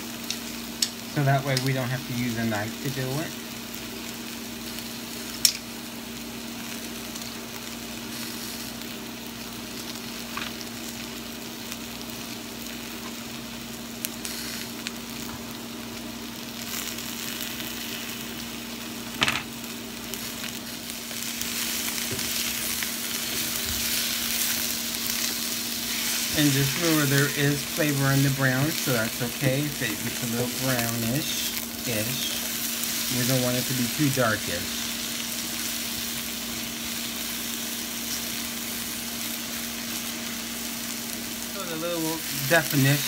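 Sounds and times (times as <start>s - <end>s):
vegetables sizzling in skillet: 0.0s - 43.0s.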